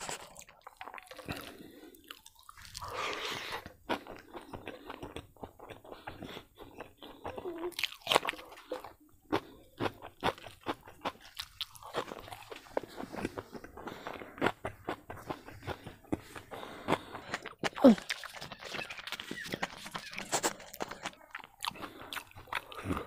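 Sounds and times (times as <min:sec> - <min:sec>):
food being crunched and chewed: 0:00.0 - 0:23.0.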